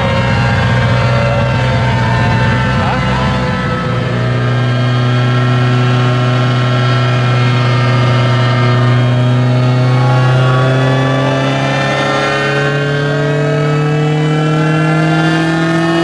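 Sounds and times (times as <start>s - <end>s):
car engine running on dyno: 0.0s - 16.0s.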